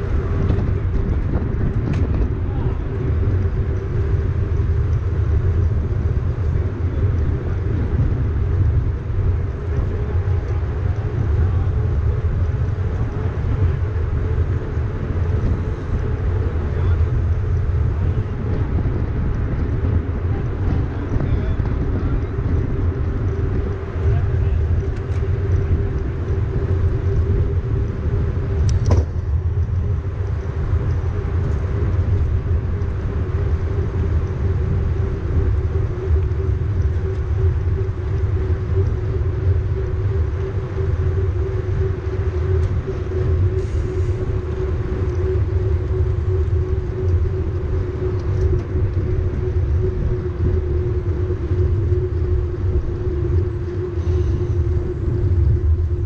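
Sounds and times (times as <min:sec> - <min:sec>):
bike tyres humming on asphalt: 0:00.0 - 0:56.0
wind rumbling on microphone: 0:00.0 - 0:56.0.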